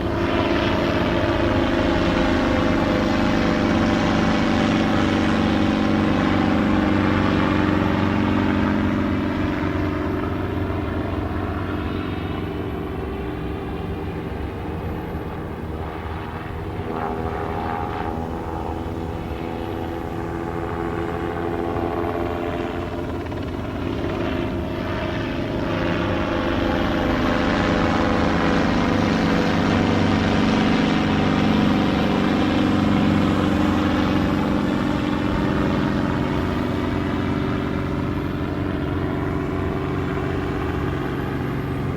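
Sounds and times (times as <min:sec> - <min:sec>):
helicopter rotor drone: 0:00.0 - 0:41.9.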